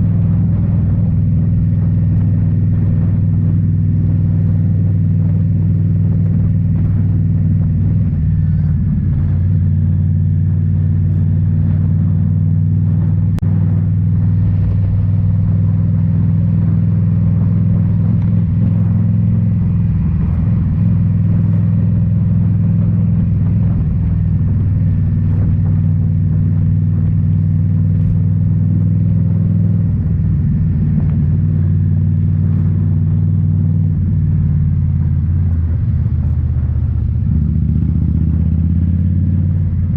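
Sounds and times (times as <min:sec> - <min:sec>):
motorcycle exhaust note: 0:00.0 - 0:39.9.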